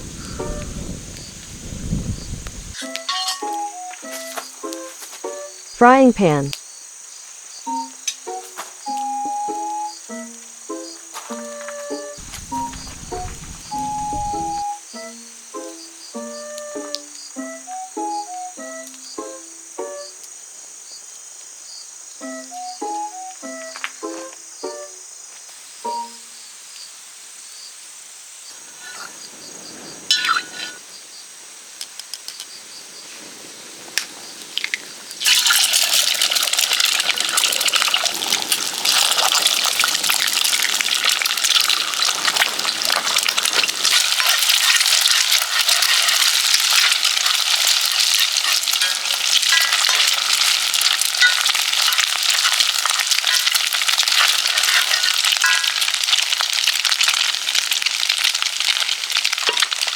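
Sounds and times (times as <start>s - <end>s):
food sizzling in hot oil: 6.7s - 21.0s, 22.4s - 59.9s.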